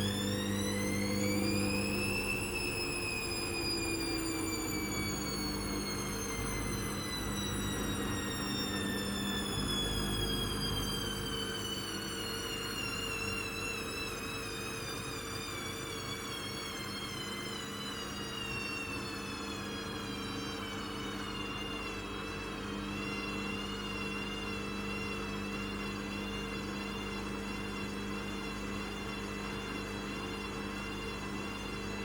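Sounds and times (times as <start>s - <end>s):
washing machine motor whining: 0.0s - 32.0s.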